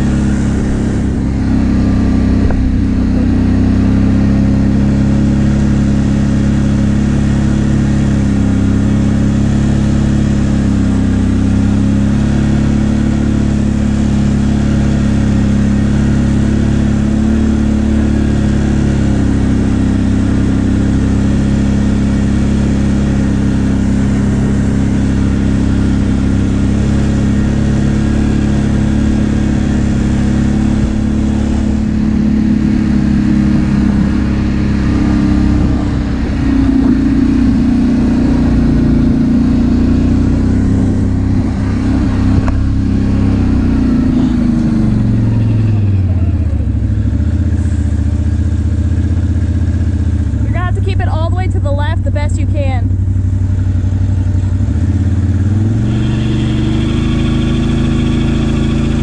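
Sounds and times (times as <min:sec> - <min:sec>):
atv engine at high revs: 0:00.0 - 0:59.0.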